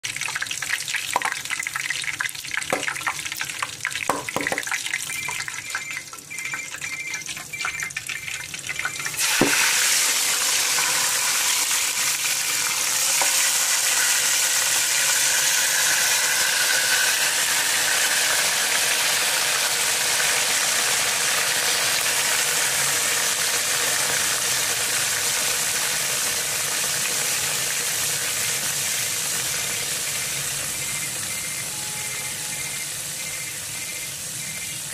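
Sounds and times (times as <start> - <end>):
deep-frying sizzle: 0.0 - 34.9
hot oil crackling and popping: 0.0 - 34.9.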